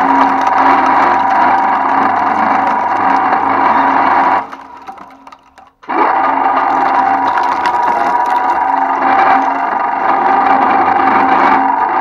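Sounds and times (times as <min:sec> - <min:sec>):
shredder chewing foil and plastic: 0:00.0 - 0:12.0
shredder motor and gear whine: 0:00.0 - 0:12.0.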